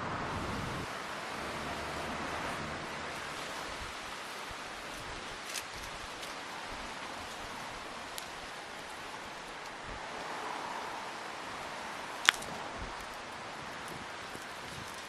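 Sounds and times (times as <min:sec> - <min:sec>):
fire rushing hiss: 0:00.0 - 0:15.0
sharp fire crackles: 0:00.2 - 0:15.0.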